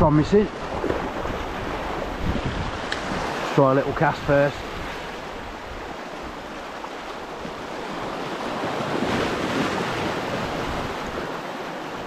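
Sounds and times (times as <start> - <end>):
sea waves breaking over rocks: 0.0 - 12.0.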